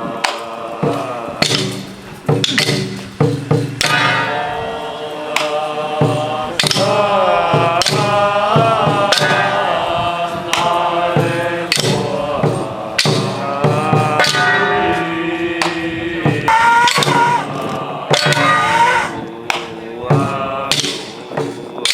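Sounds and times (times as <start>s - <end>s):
person chanting melodically: 0.0s - 2.8s, 3.8s - 21.9s
sharp percussion strikes: 1.4s - 9.6s, 10.6s - 21.9s.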